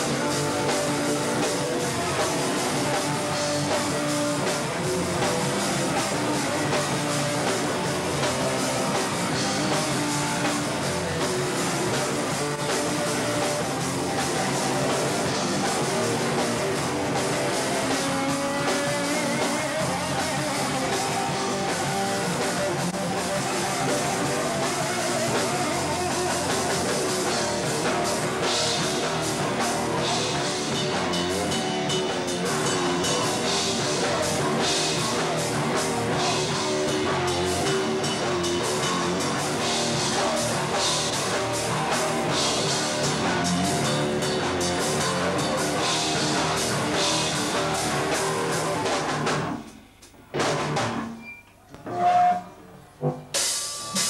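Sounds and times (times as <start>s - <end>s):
pounding drum kit: 0.0s - 52.0s, 52.8s - 54.0s
live rock band playing: 0.0s - 54.0s.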